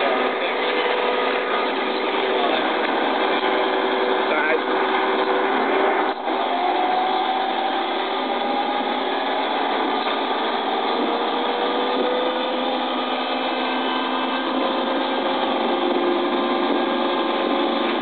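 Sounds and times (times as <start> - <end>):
motor running with rising hum: 0.0 - 18.0.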